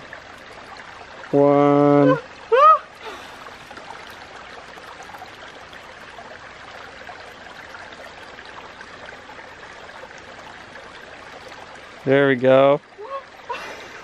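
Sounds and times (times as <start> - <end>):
stream running: 0.0 - 14.0.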